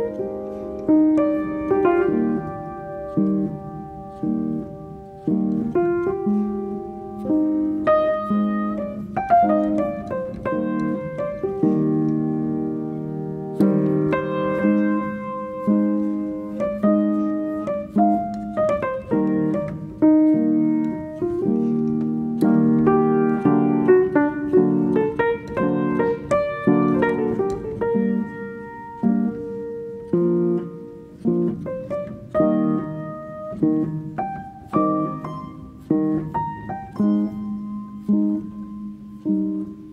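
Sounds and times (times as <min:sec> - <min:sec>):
slow piano music: 0:00.0 - 0:39.9.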